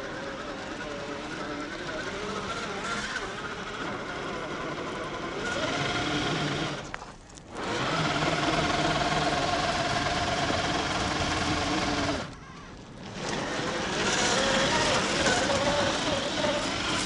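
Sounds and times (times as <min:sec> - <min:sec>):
electric motor whining: 0:00.0 - 0:17.0
wheels spinning in sand: 0:00.0 - 0:17.0.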